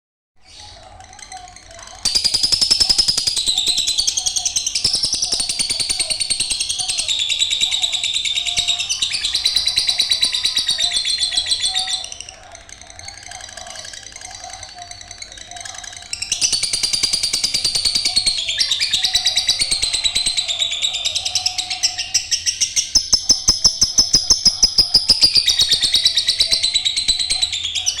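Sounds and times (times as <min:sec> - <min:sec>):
bird chattering trill: 0:00.4 - 0:28.0.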